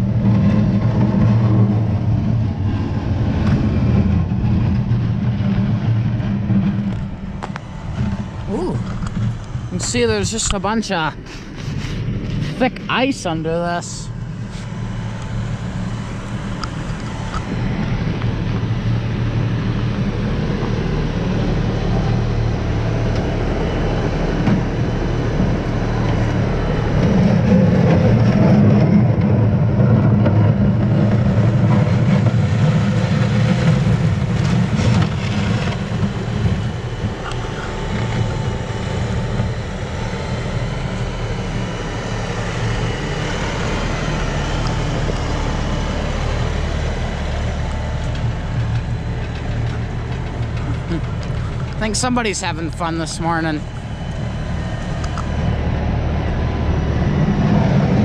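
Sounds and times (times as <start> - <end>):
loader bucket dragging over snow: 0.0 - 58.0
tractor diesel engine running: 0.0 - 58.0.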